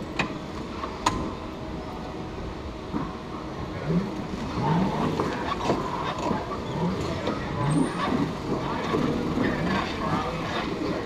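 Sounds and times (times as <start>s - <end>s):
go-kart motors running: 0.0s - 11.0s.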